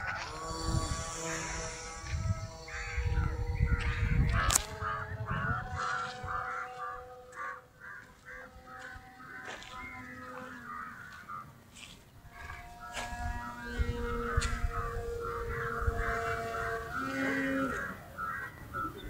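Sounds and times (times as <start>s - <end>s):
crows cawing: 0.0s - 19.0s
model plane electric motor whine: 0.0s - 19.0s.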